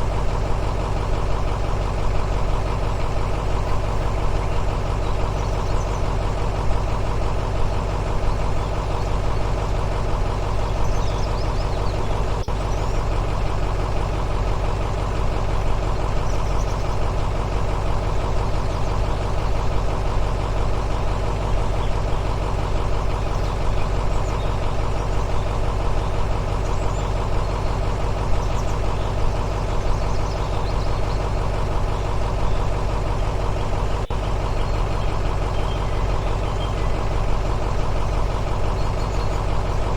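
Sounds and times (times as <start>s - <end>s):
engine idling sound: 0.0s - 39.9s.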